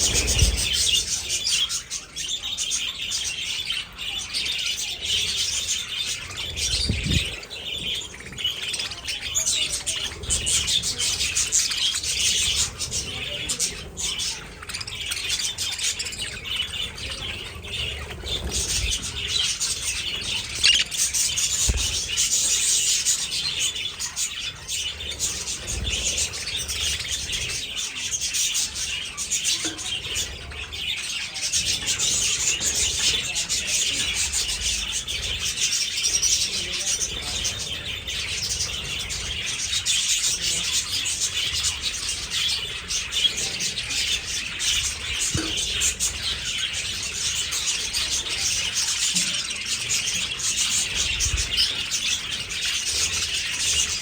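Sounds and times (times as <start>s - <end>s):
budgerigars chattering and chirping: 0.0s - 54.0s.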